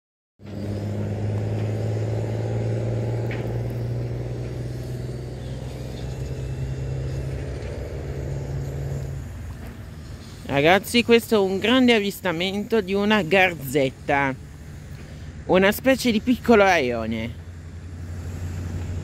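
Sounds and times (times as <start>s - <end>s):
engine humming: 0.4s - 19.0s.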